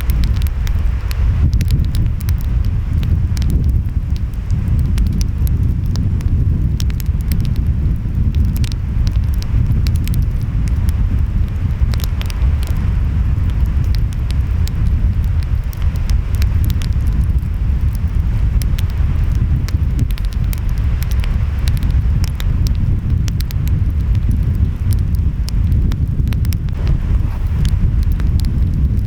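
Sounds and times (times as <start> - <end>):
wind: 0.0 - 29.0
wood fire crackling: 0.0 - 29.0.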